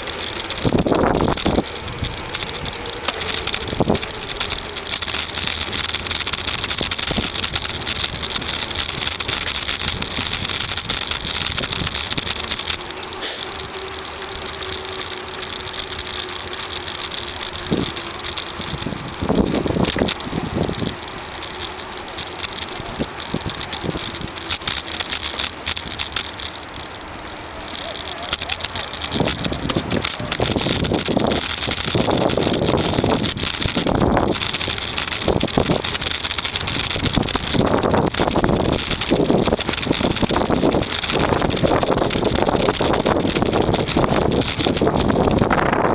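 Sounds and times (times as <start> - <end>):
bicycle ride rush: 0.0 - 45.9
small rattling clicks: 0.0 - 45.9.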